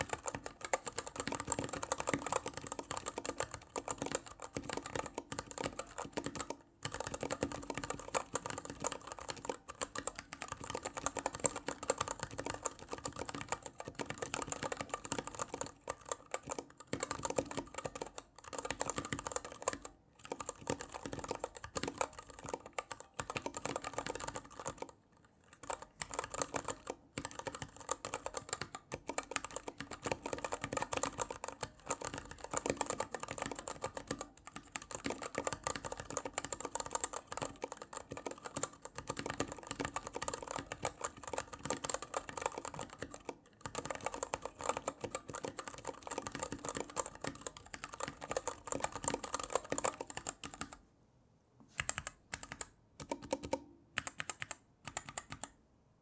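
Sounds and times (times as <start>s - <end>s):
fast keyboard typing: 0.0s - 50.8s, 51.7s - 55.6s.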